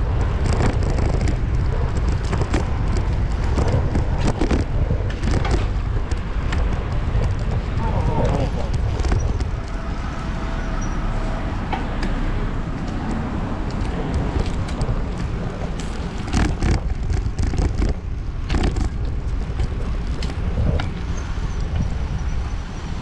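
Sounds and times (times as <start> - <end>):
bicycle rattles and knocks: 0.0 - 23.0
road rumble: 0.0 - 23.0
wind buffeting microphone: 0.0 - 23.0.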